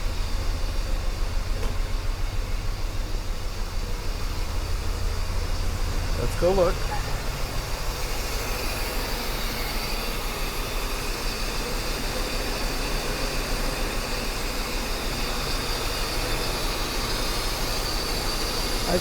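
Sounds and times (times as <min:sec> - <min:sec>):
car engine idling: 0:00.0 - 0:12.9, 0:13.6 - 0:19.0.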